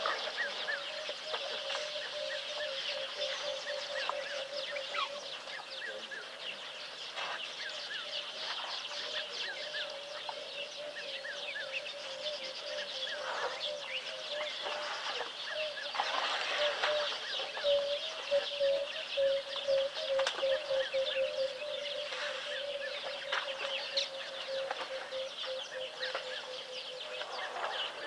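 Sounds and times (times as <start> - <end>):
birds chirping and calling: 0.0 - 28.0
low warbling bird call: 0.0 - 28.0.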